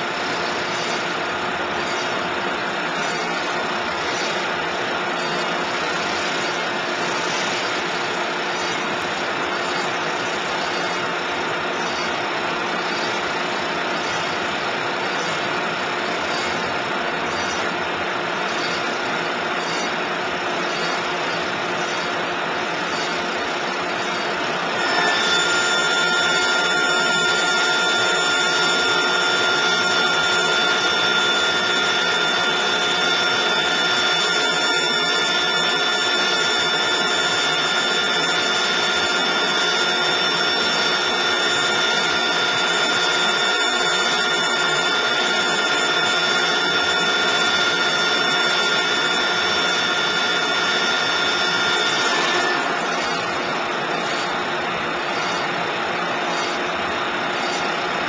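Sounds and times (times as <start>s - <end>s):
high whining tones: 0.0s - 58.0s.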